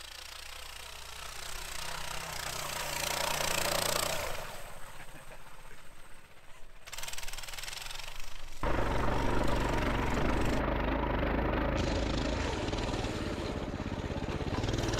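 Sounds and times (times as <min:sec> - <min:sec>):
small motorbike engine running: 0:00.0 - 0:14.9.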